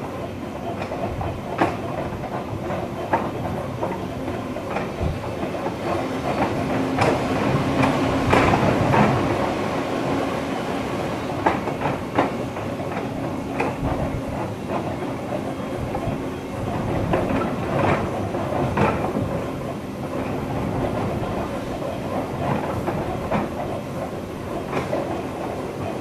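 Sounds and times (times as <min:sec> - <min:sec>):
electric train rumbling: 0:00.0 - 0:26.0
wheels clicking over rail joints: 0:00.0 - 0:26.0.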